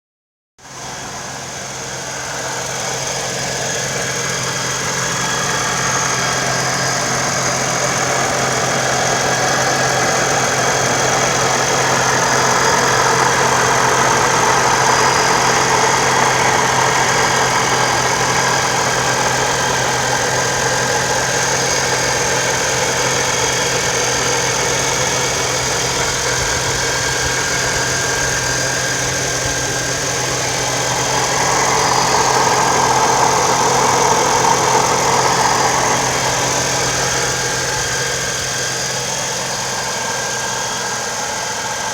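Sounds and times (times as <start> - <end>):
car engine idling: 0.6 - 41.9
high-pitched supercharger whine: 0.6 - 41.9.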